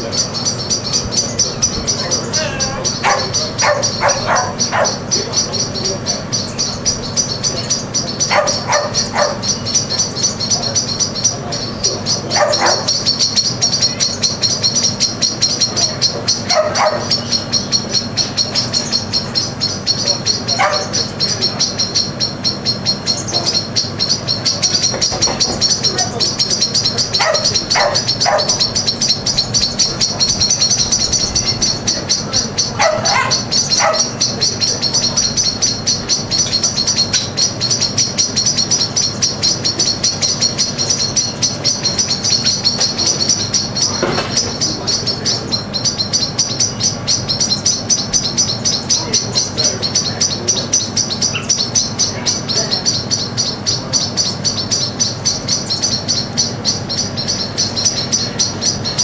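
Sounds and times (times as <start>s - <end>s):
lower sweeping bird calls: 0.0s - 59.0s
small birds chirping chorus: 0.0s - 59.0s.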